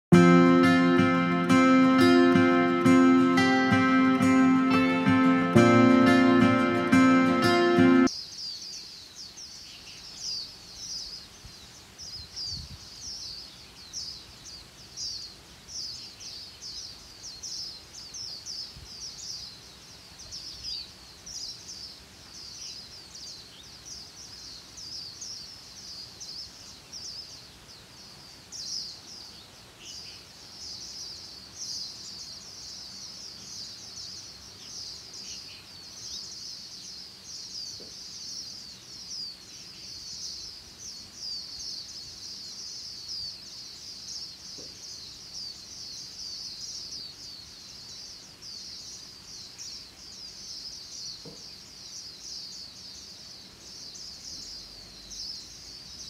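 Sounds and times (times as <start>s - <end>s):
chorus of small birds chirping: 0.4s - 56.0s.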